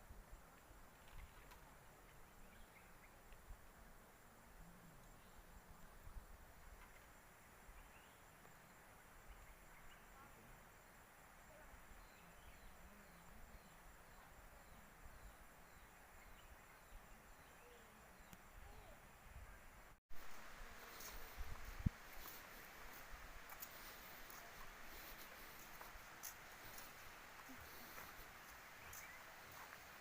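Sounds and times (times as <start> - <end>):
background hiss: 0.0 - 30.0
insect chorus: 2.4 - 19.0, 19.6 - 30.0.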